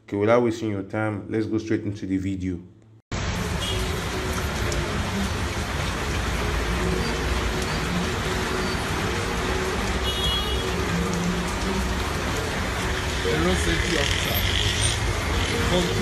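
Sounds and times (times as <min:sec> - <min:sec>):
heavy rain pouring: 0:03.1 - 0:16.0
traffic: 0:03.1 - 0:16.0.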